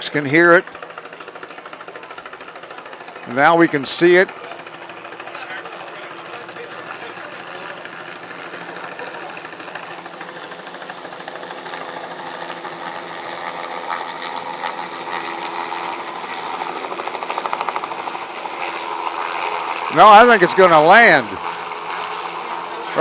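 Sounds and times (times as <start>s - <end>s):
helicopter rotor chopping: 0.0s - 23.0s.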